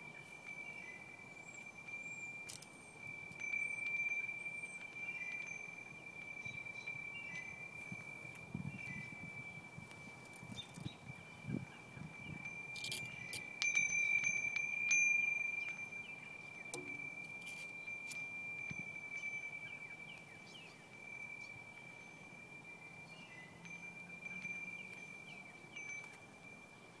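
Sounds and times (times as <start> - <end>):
wind chime bells tinkling: 0.0 - 27.0.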